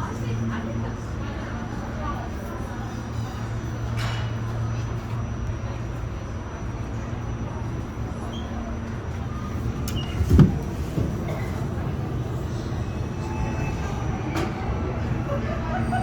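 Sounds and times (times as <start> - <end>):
subway car low hum: 0.0 - 16.0.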